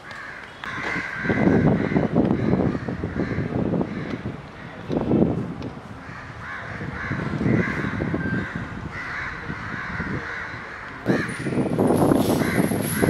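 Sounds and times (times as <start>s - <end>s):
birds cawing: 0.0s - 4.8s, 6.0s - 13.0s.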